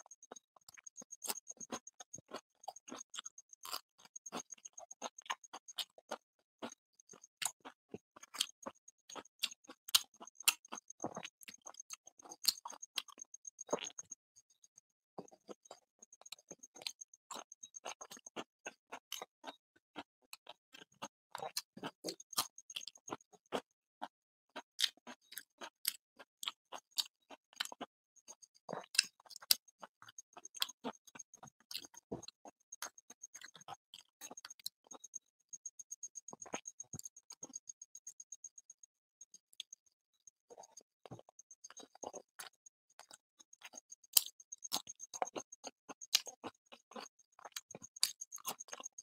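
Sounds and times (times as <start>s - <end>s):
man chewing: 0.0s - 14.1s, 15.2s - 35.2s, 36.0s - 38.2s, 40.5s - 49.0s.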